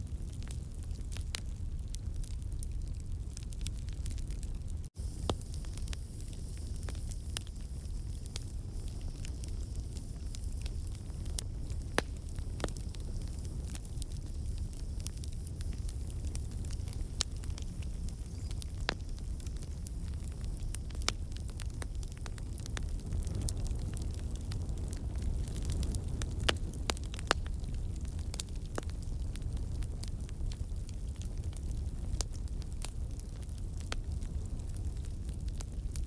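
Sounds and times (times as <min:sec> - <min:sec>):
crackles and pops of burning logs: 0:00.0 - 0:36.0
low rumble of flames: 0:00.0 - 0:36.0.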